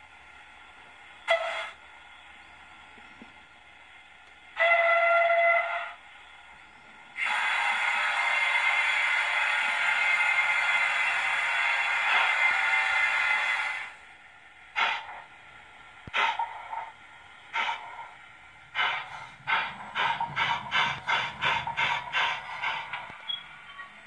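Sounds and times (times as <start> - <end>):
steam hiss: 0.0 - 3.4, 4.5 - 23.7
steam locomotive exhaust chuffs: 0.0 - 24.0.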